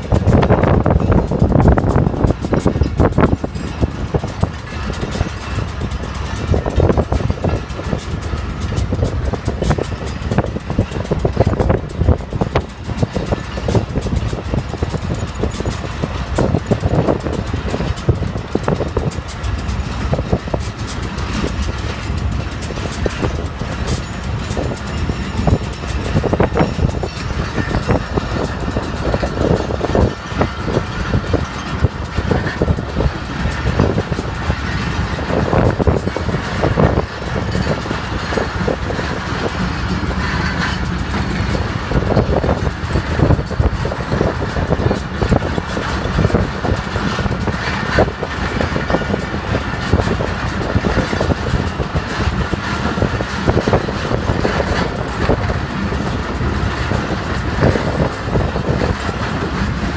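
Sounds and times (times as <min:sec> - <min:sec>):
train rumbling on rails: 0:00.0 - 0:59.9
wheels clattering on rails: 0:00.0 - 0:59.9.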